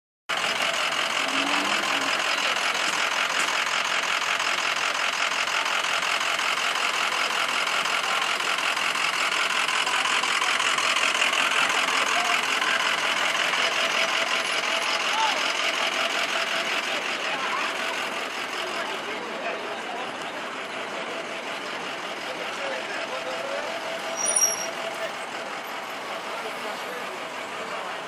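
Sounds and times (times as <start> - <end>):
engine idling: 0.3 - 28.0.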